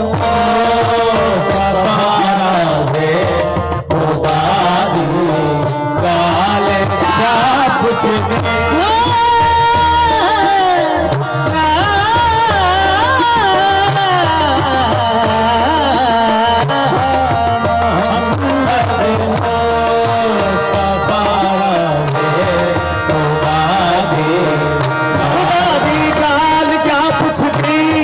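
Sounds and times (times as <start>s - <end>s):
man singing: 0.0s - 28.0s
tabla: 0.0s - 28.0s.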